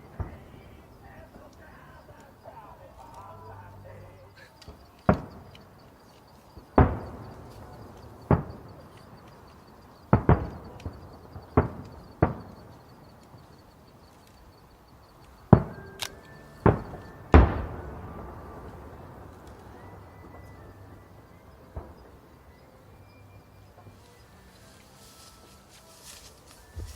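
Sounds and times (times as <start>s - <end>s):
fireworks booming with echo: 0.0s - 26.9s.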